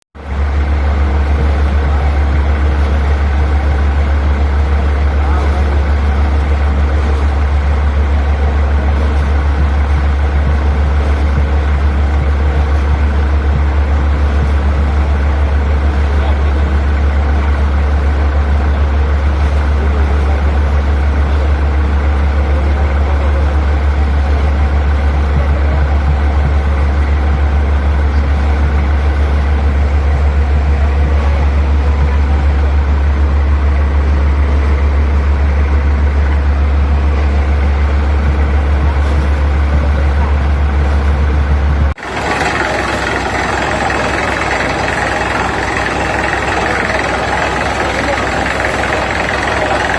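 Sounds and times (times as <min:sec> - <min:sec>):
diesel engine droning: 0:00.2 - 0:49.9.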